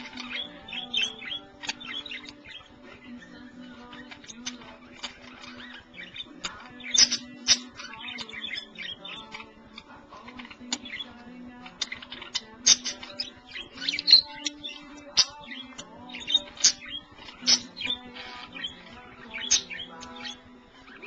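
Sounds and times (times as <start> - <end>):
budgerigar squawks: 0.0 - 2.8, 3.9 - 21.0
budgerigars warbling and chattering: 0.0 - 21.0.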